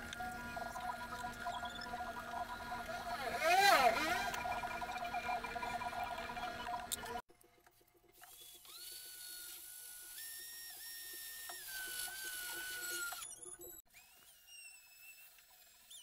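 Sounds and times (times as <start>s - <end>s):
small electric motor whining: 1.4s - 7.2s, 8.2s - 16.0s.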